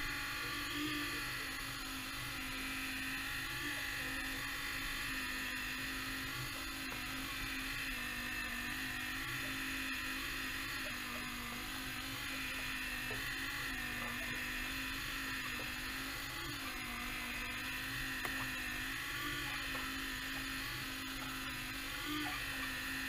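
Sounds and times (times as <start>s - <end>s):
small electric motor humming and whining: 0.0s - 23.0s.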